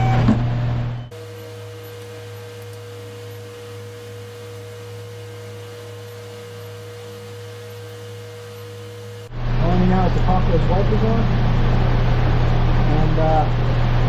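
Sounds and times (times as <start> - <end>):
low electrical hum: 0.0 - 14.0
steady pure tone: 0.0 - 14.0.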